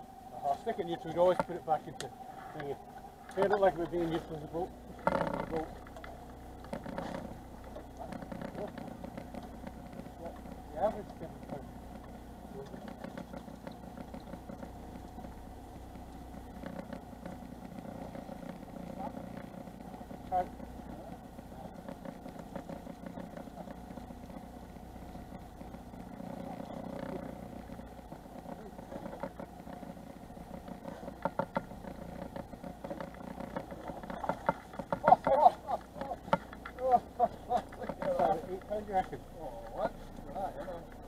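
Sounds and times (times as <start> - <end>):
boat engine idling: 0.0 - 41.0.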